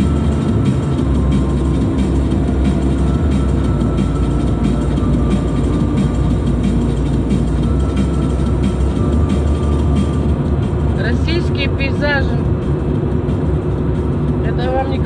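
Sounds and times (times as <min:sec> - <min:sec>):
car driving at highway speed: 0:00.0 - 0:15.0.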